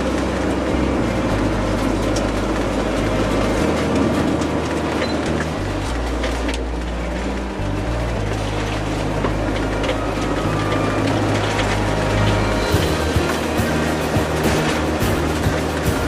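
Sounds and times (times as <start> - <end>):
car road and engine noise: 0.0 - 16.0
low sustained tones: 0.0 - 16.0.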